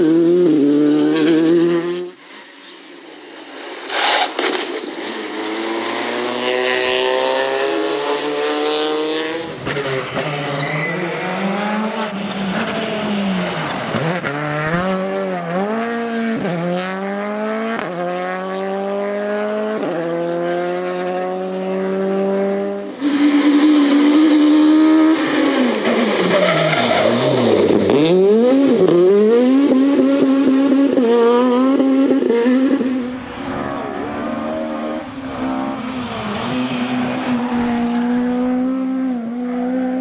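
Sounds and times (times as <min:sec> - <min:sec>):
rally car engine revving: 0:00.0 - 0:02.3, 0:03.9 - 0:40.0.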